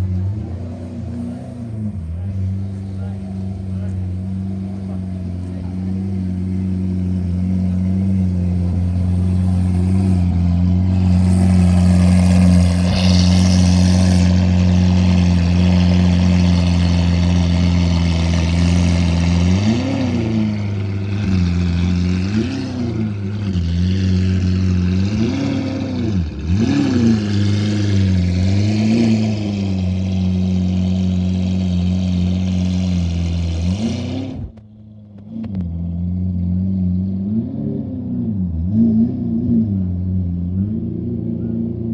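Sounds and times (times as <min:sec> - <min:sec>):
sports car engine idling and revving: 0:00.0 - 0:41.9.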